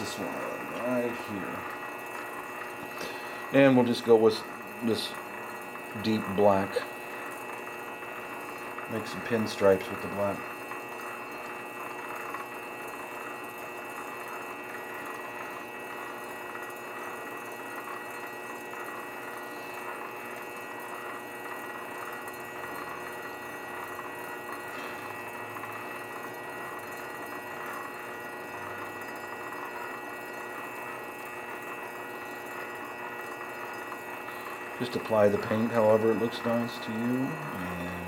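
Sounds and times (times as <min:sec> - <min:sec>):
lathe motor humming with whine: 0:00.0 - 0:38.0.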